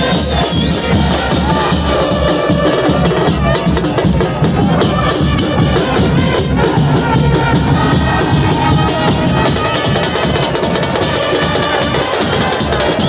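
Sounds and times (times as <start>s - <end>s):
crowd singing: 0.0s - 13.0s
drums beating fast rhythm: 0.0s - 13.0s.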